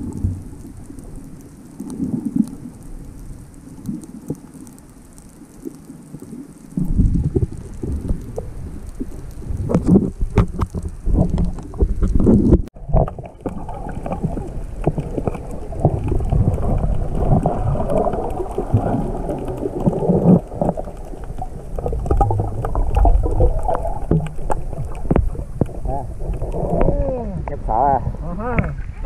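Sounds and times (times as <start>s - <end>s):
underwater water rumble: 0.0s - 29.0s.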